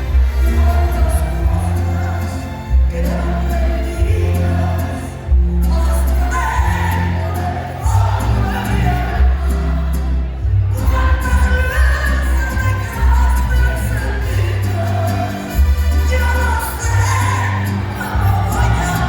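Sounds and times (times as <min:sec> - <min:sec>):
crowd singing along: 0:00.0 - 0:19.0
live band with booming bass: 0:00.0 - 0:19.0.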